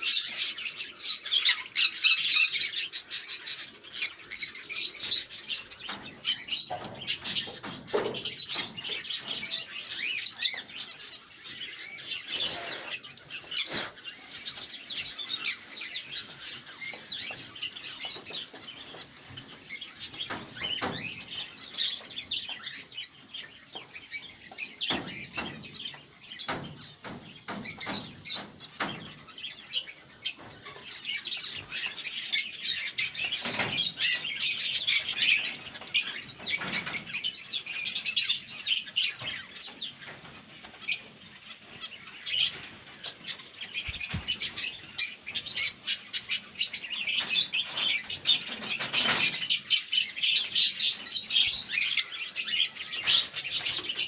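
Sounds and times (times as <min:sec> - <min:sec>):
caged birds chirping: 0:00.0 - 0:54.0.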